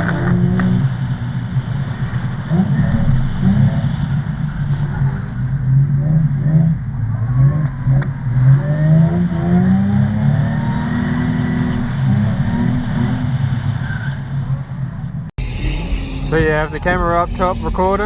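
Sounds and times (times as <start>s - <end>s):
car engines revving hard: 0.0s - 14.7s, 15.4s - 18.0s.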